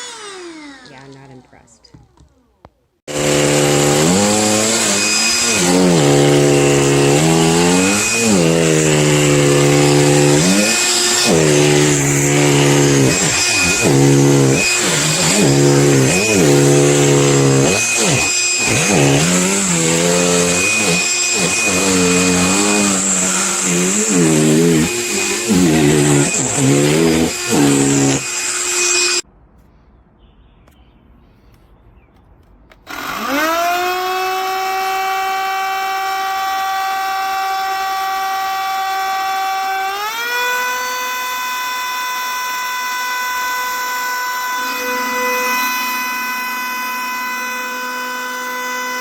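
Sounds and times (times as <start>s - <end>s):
handheld vacuum motor whine: 0.0s - 1.4s, 3.1s - 29.2s, 32.9s - 49.0s.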